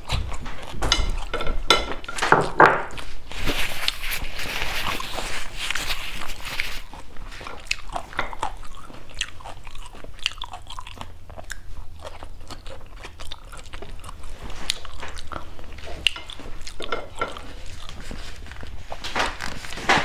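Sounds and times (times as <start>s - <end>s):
crisp chewing crunches: 3.0s - 20.0s.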